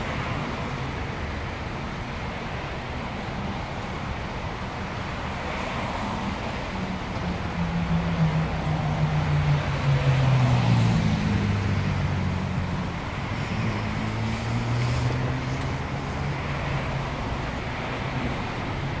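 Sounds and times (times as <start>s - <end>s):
car engines humming: 0.0s - 19.0s
tyre and road noise: 0.0s - 19.0s.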